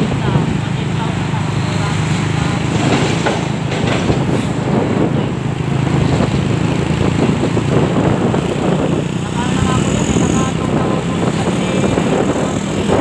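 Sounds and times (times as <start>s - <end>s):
rough road rushing noise: 0.0s - 13.0s
wind buffeting microphone: 0.0s - 13.0s.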